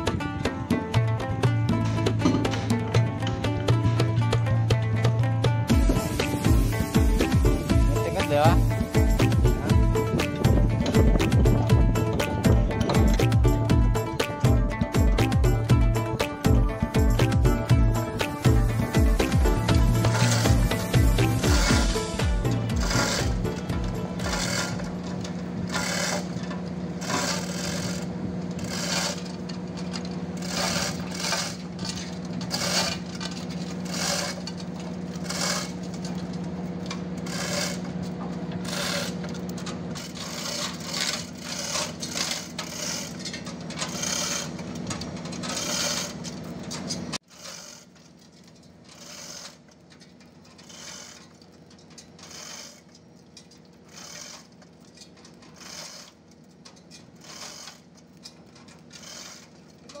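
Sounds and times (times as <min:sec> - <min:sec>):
low machine hum: 0:00.0 - 1:00.0
metal scraping and rattling: 0:00.0 - 1:00.0.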